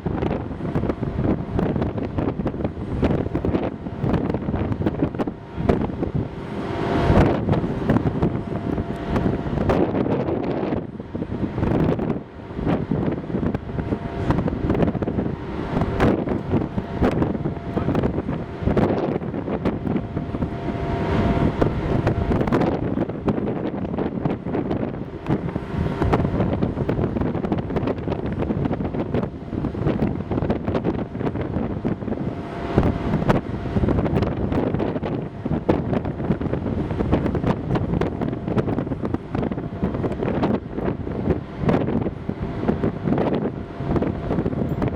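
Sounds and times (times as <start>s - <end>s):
ferry machinery hum: 0.0s - 44.9s
wind buffeting microphone: 0.0s - 44.9s.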